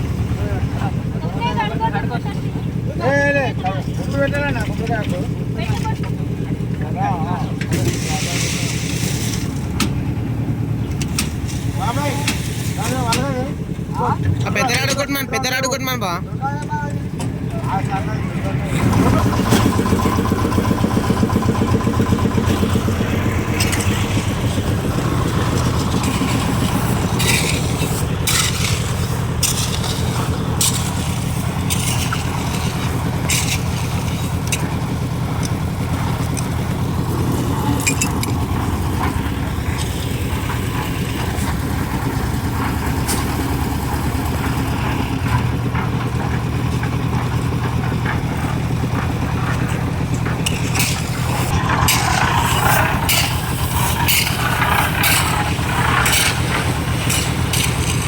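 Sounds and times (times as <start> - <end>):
engine running steadily: 0.0 - 58.0
sharp clanks and knocks: 7.5 - 15.2, 18.7 - 58.0.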